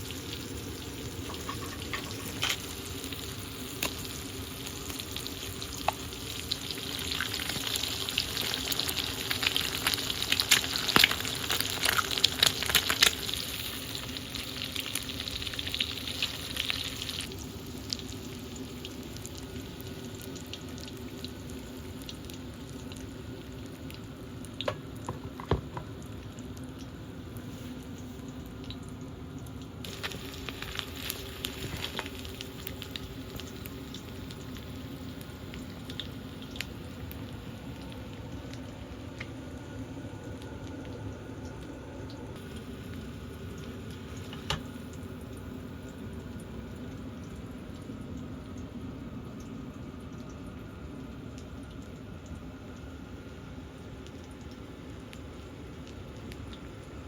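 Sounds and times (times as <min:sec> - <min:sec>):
food sizzling in a frying pan: 0:00.0 - 0:28.8, 0:29.7 - 0:48.0.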